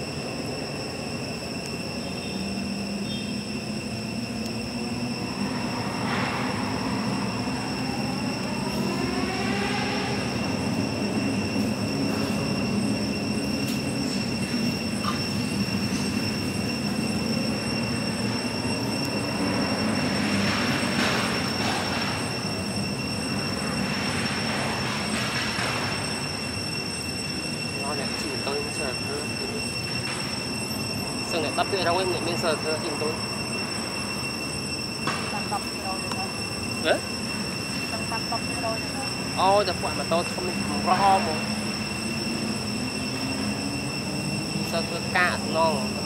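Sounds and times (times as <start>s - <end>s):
forest insects droning: 0.0s - 46.0s.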